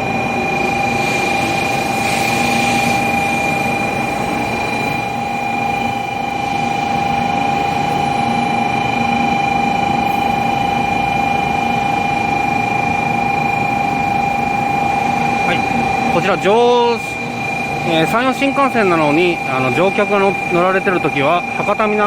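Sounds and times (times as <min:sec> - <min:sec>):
train electrical whine: 0:00.0 - 0:22.0.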